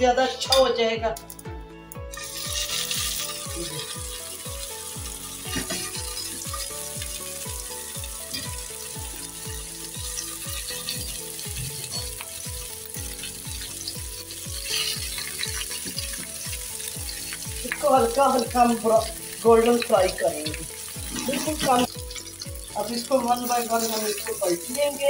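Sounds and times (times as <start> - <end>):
background music with steady beat: 0.0 - 25.0
chicken sizzling in a frying pan: 2.1 - 25.0.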